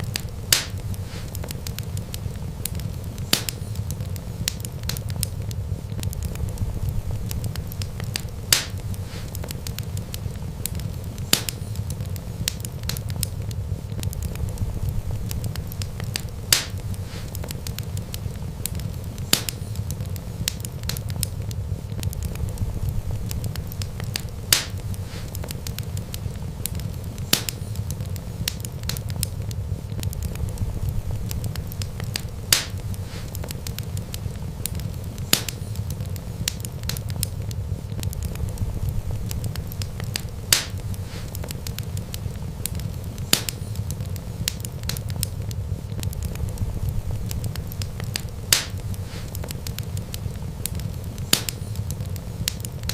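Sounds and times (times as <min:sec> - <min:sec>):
low rumble of flames: 0:00.0 - 0:52.9
sharp pops of fire: 0:00.0 - 0:52.9
wood fire crackling: 0:00.0 - 0:52.9.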